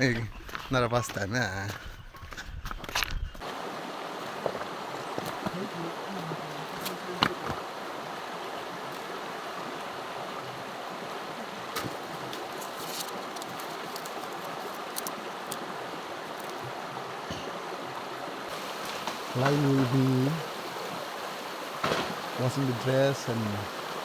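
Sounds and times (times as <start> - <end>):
river water flowing: 3.4 - 24.0.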